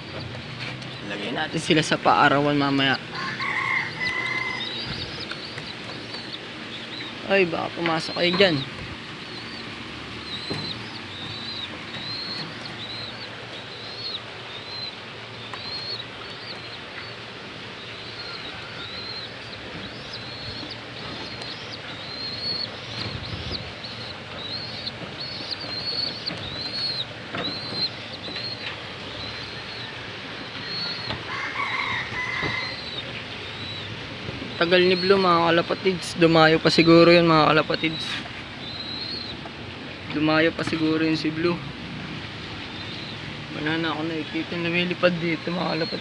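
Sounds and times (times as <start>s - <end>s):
bird chirping: 0.0s - 41.6s, 42.4s - 46.0s.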